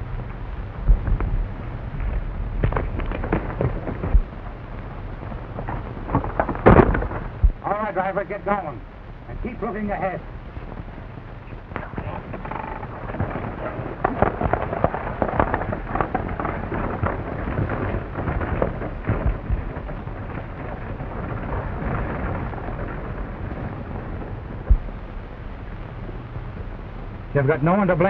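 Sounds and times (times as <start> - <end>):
coach wheels rattling on dirt: 0.0 - 28.0
horse hoofbeats: 0.0 - 28.0.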